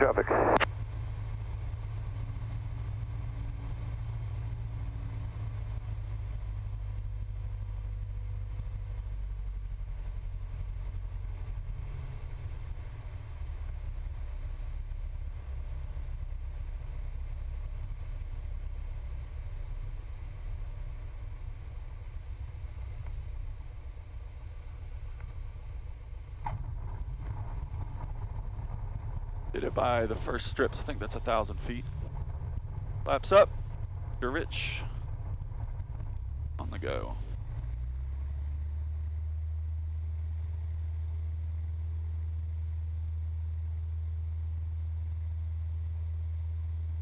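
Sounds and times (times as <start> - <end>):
propeller plane engine droning: 0.0 - 47.0.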